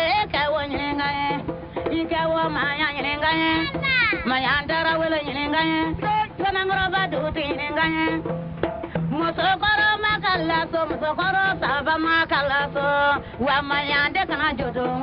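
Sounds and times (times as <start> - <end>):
instrumental backing music: 0.0 - 15.0.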